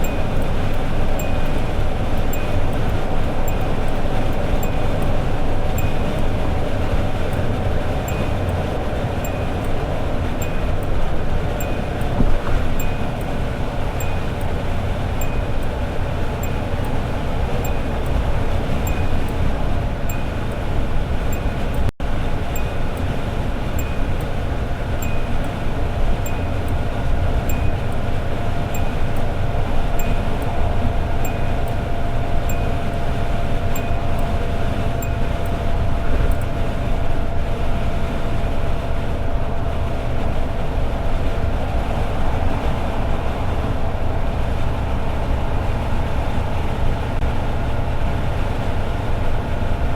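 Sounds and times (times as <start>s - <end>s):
light regular ticking: 0.0s - 40.4s
car engine and road drone: 0.0s - 49.9s
faint steady whine: 0.0s - 49.9s.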